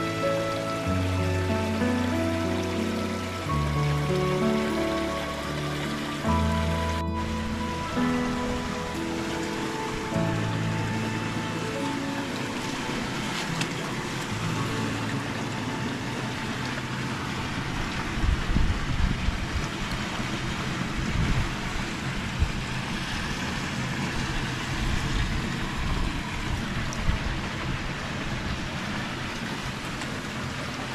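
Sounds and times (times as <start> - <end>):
water rushing over concrete: 0.0 - 30.9.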